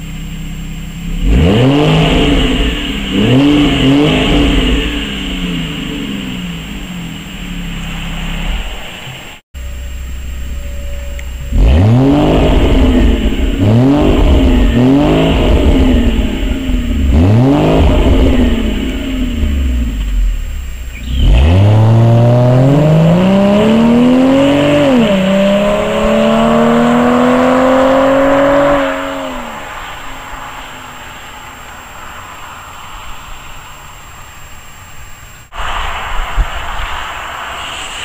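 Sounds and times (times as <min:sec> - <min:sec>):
car engine revving: 0:00.0 - 0:38.0
car accelerating away: 0:01.0 - 0:38.0.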